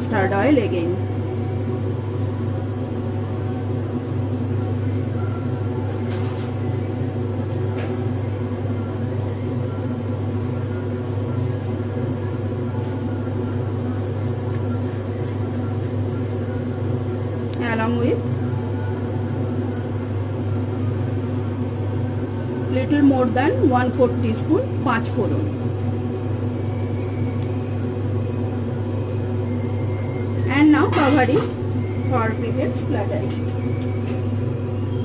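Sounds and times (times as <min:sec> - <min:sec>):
steady machine hum: 0:00.0 - 0:35.0.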